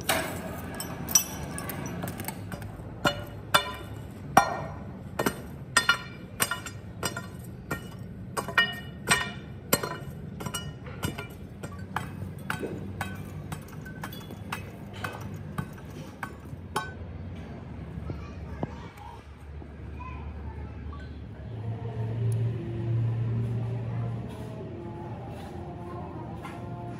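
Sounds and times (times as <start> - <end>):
low machinery hum: 0.0 - 26.9.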